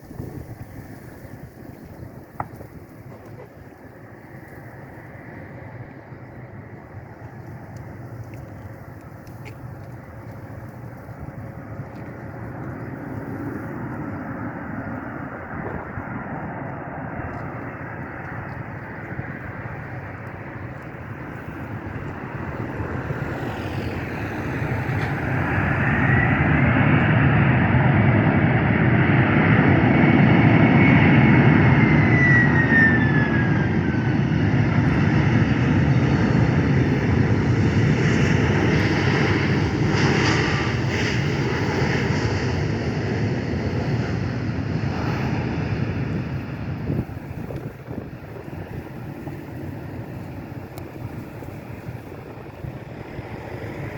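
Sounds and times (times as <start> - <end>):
airliner engines passing: 0.0 - 53.9.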